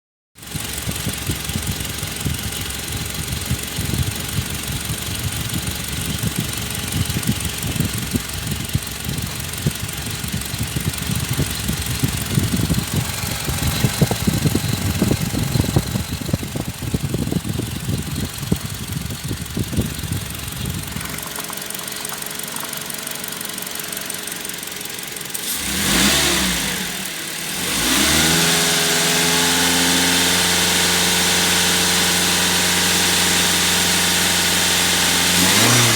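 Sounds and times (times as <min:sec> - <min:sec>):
van engine idling and revving: 0:00.4 - 0:35.9.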